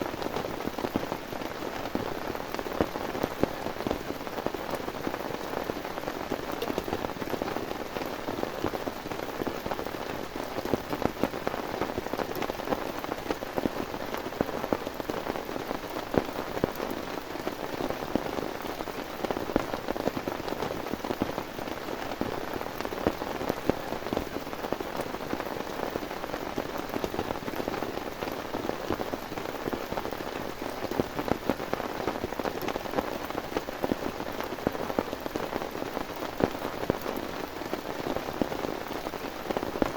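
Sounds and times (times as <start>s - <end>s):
heavy rain: 0.0s - 39.9s
raindrops ticking on a surface: 0.0s - 39.9s.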